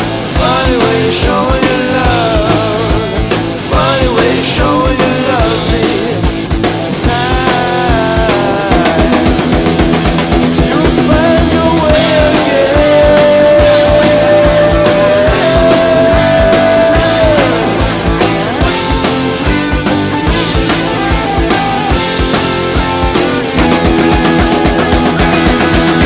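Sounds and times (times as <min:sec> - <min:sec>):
bass guitar: 0:00.0 - 0:26.0
drums: 0:00.0 - 0:26.0
rock band playing: 0:00.0 - 0:26.0.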